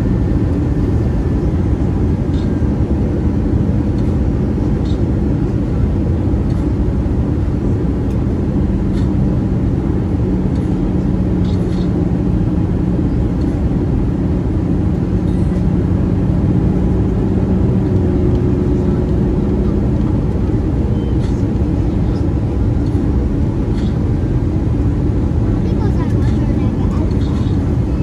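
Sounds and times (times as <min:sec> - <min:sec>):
cabin airflow rush: 0:00.0 - 0:28.0
low jet engine hum: 0:00.0 - 0:28.0.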